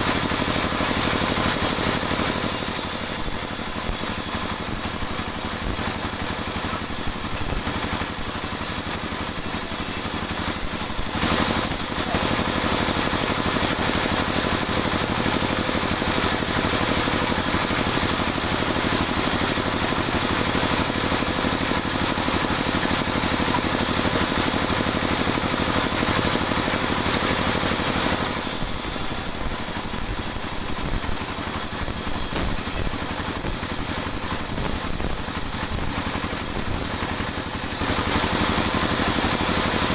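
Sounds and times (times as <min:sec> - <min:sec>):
band sawmill running: 0:00.0 - 0:39.9
saw blade cutting wood: 0:00.0 - 0:39.9.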